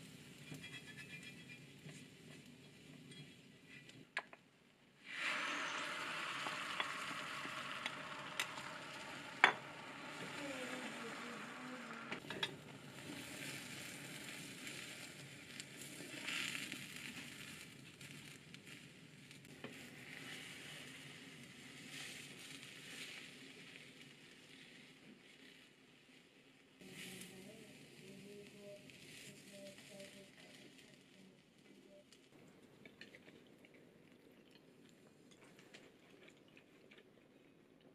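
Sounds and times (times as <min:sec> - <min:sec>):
egg sizzling in a pan: 0:00.0 - 0:03.8, 0:05.0 - 0:32.3.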